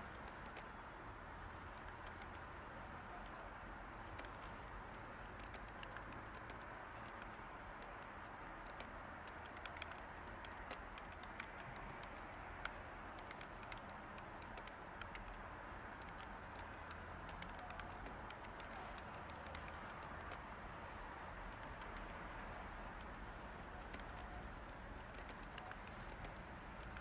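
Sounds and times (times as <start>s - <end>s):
faint white noise hiss: 0.0s - 27.0s
keyboard typing clicks: 0.1s - 0.9s, 1.6s - 2.5s, 4.0s - 20.5s, 21.5s - 22.2s, 22.9s - 27.0s.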